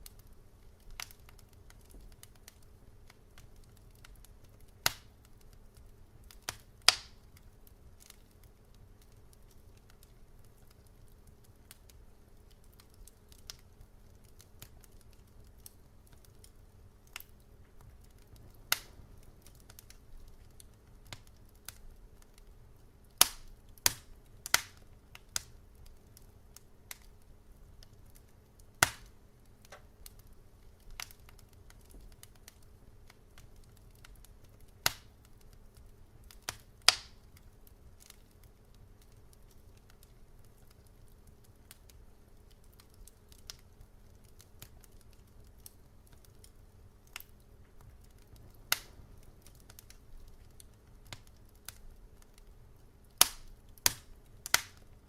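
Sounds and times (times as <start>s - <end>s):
faint low hiss and hum: 0.0s - 55.0s
wood fire crackling and popping: 0.0s - 55.0s.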